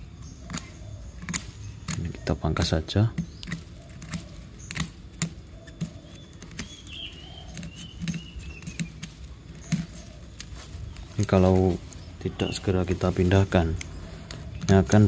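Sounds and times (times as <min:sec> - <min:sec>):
scalpel cutting roots: 0:00.4 - 0:15.0.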